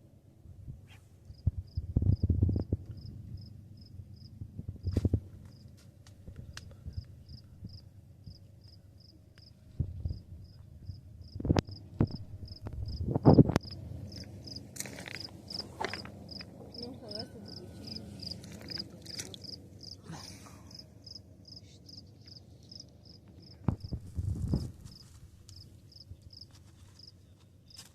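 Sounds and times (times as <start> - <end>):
cricket chirping: 2.5 - 5.7, 6.9 - 20.0, 20.7 - 27.1.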